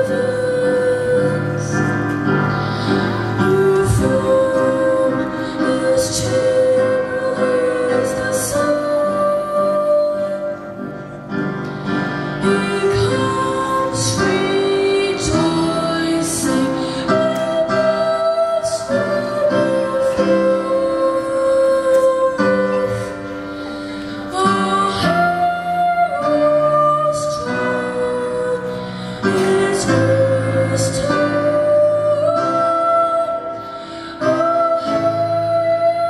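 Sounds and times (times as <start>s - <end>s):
boy singing into microphone: 0.0s - 36.0s.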